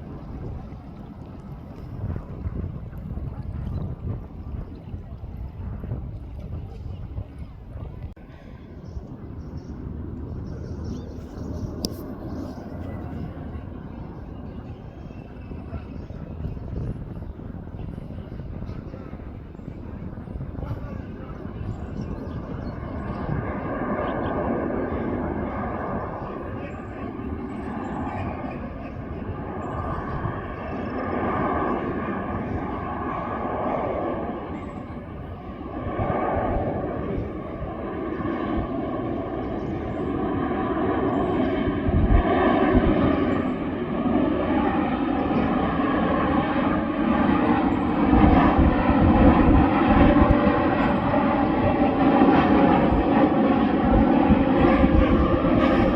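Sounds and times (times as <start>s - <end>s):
jet engines rushing: 0.0s - 55.9s.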